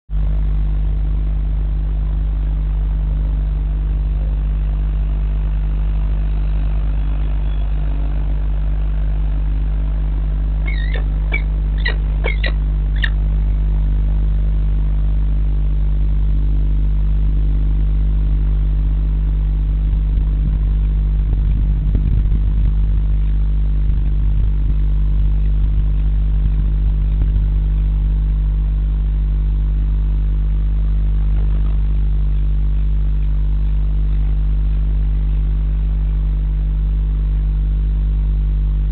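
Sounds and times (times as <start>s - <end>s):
low electrical hum: 0.1s - 38.9s.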